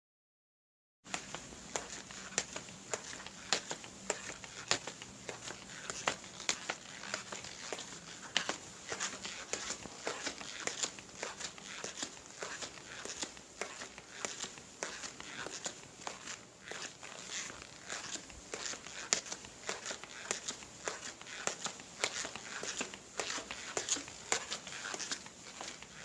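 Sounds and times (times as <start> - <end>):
footsteps tapping: 1.1 - 26.0.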